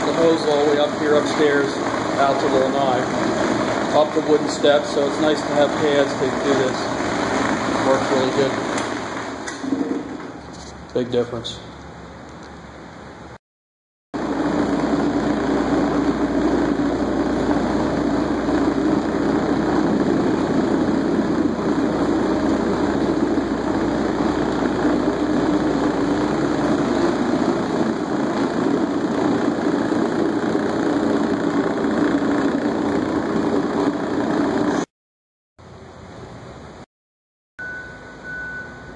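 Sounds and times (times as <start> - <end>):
floor machine motor humming: 0.0 - 10.6, 14.2 - 34.9.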